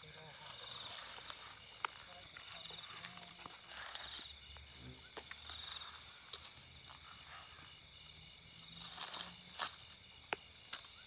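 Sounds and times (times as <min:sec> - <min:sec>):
dry grass and leaves rustling: 0:00.0 - 0:11.0
night insects chirring: 0:00.0 - 0:11.0.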